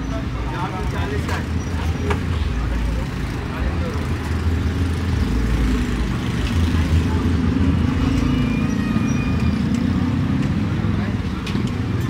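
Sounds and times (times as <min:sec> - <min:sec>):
background chatter: 0:00.0 - 0:12.0.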